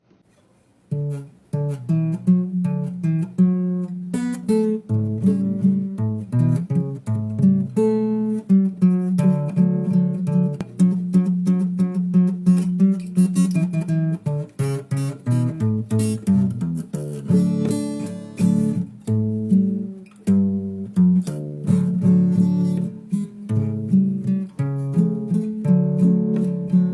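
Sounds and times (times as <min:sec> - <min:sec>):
fingerpicked acoustic guitar: 0:00.0 - 0:26.9.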